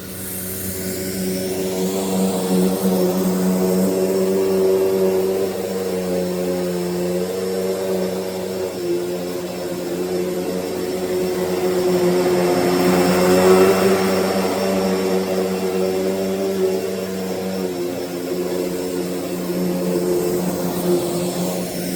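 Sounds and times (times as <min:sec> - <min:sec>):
vacuum cleaner running: 0:00.0 - 0:21.9.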